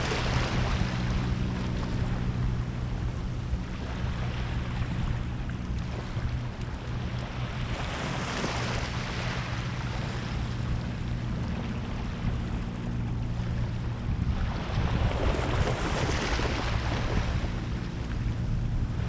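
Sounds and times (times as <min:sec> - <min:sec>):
small waves washing ashore: 0:00.0 - 0:19.0
steady low hum: 0:00.0 - 0:19.0.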